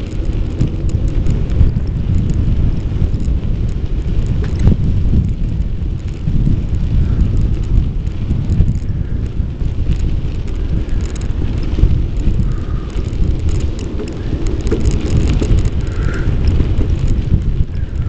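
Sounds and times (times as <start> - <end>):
light rattling clicks: 0.0 - 18.0
wind buffeting microphone: 0.0 - 18.0.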